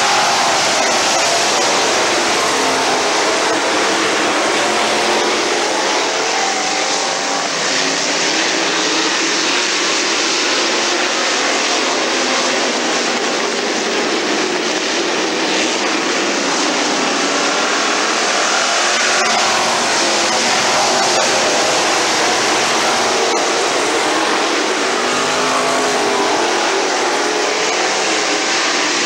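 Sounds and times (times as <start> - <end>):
race car engines at speed: 0.0 - 29.0.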